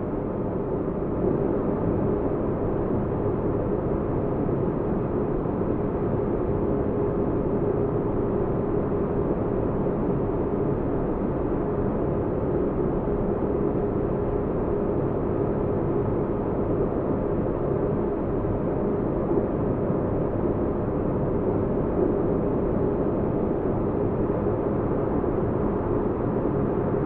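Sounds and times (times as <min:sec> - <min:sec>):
faint constant hum: 0:00.0 - 0:27.0.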